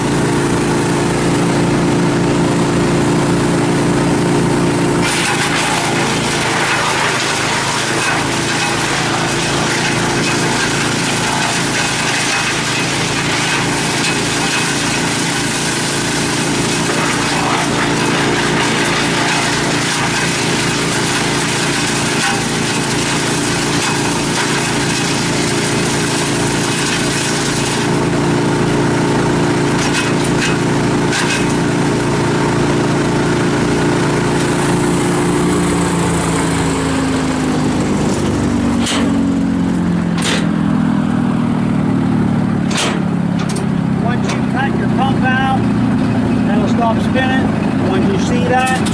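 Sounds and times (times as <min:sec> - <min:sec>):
wood chipper engine running: 0:00.0 - 0:48.9.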